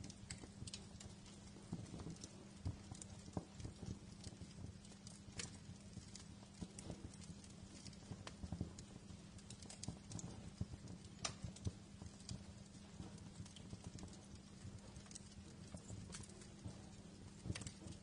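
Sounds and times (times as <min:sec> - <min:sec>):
low steady rumble: 0:00.0 - 0:18.0
wood fire crackling: 0:00.0 - 0:18.0.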